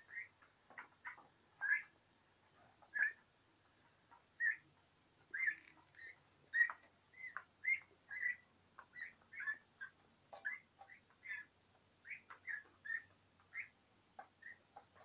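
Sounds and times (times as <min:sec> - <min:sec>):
young turkeys peeping: 0:00.0 - 0:15.0.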